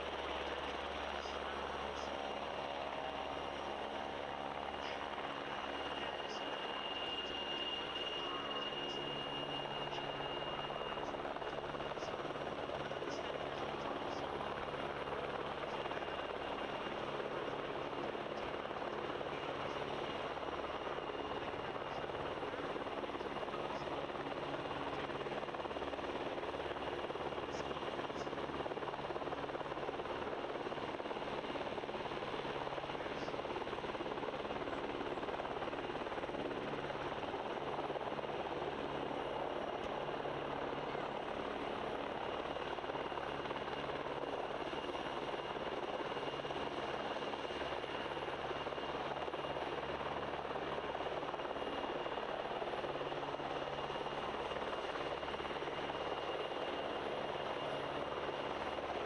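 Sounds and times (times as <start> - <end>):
helicopter rotor and turbine noise: 0.0 - 59.0
high turbine whine: 0.0 - 59.0.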